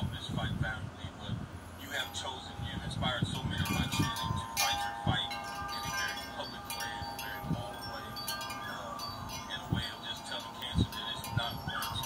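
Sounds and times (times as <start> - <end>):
chimes ringing: 1.7 - 12.0.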